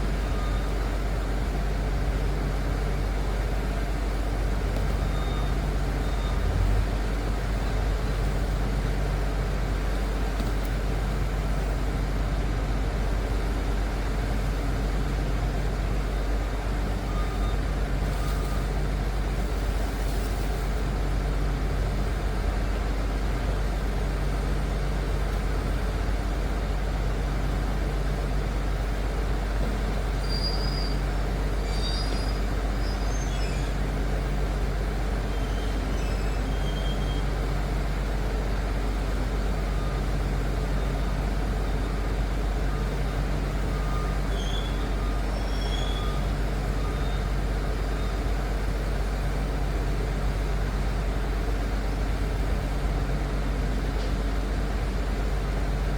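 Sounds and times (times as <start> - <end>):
dozer diesel engine droning: 0.0 - 55.9.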